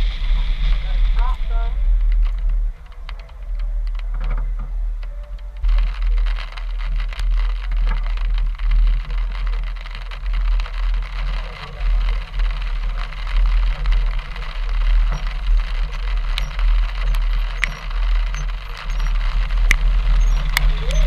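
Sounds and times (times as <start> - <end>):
road noise hiss: 0.0 - 21.0
vehicle engine and tyres rumbling: 0.0 - 21.0.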